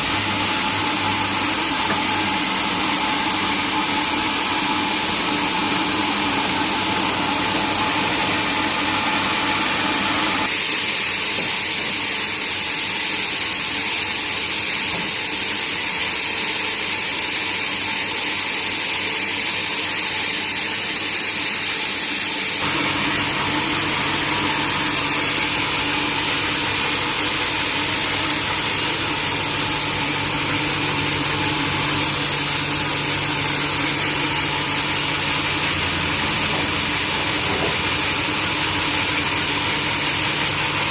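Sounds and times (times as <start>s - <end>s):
sawmill machinery hissing: 0.0s - 18.1s, 19.2s - 40.9s.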